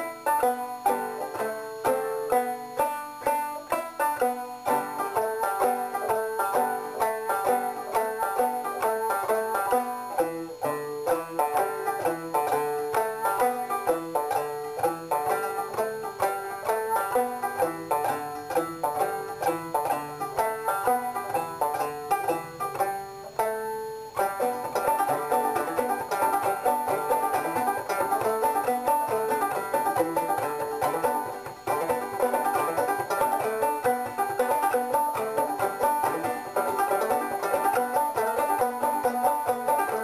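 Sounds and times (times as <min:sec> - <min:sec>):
fast-picked banjo music: 0:00.0 - 0:40.0.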